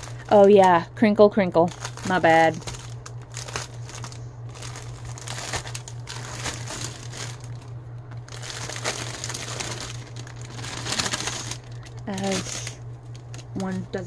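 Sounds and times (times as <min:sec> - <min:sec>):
plastic bag crinkling: 0:00.0 - 0:00.8, 0:01.5 - 0:14.0
steady low hum: 0:00.0 - 0:14.0.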